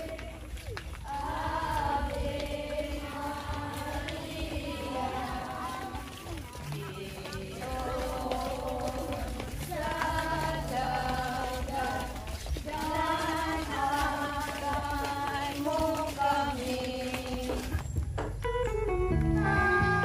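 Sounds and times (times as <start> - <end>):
song with sung vocals: 0.0 - 17.8, 19.2 - 20.0.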